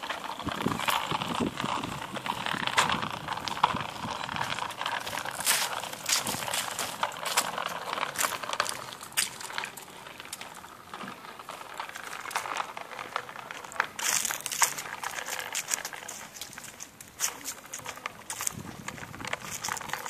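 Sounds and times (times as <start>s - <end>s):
bicycle rolling over dry leaves: 0.0s - 20.0s.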